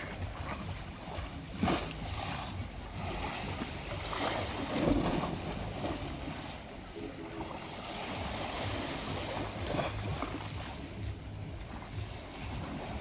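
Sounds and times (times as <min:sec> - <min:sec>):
low uneven rumble: 0:00.0 - 0:13.0
waves splashing over stone steps: 0:00.0 - 0:13.0.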